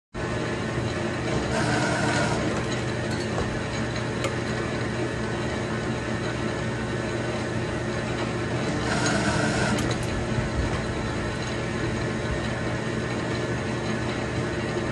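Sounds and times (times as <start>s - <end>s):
metal lathe whirring: 0.2s - 14.9s.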